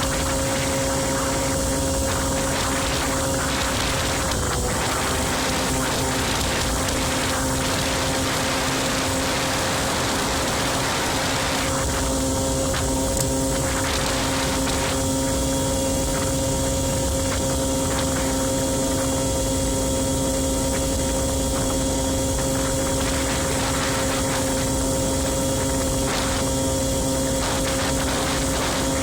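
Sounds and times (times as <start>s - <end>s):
scooter engine running: 0.0s - 29.0s
steady rushing noise: 0.0s - 29.0s.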